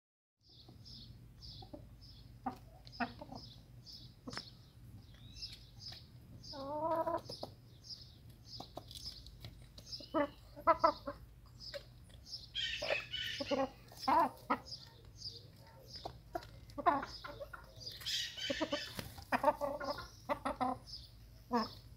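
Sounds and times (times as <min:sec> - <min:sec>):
chickens clucking: 0:00.5 - 0:21.9.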